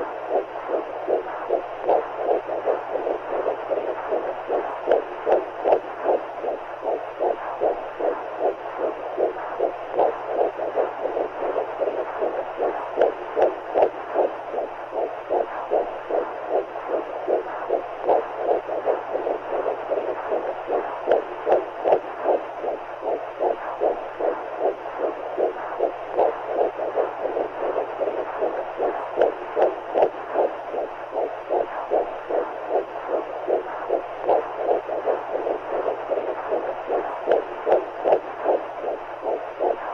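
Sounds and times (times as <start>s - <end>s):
muffled heartbeat pulses: 0.0s - 39.9s.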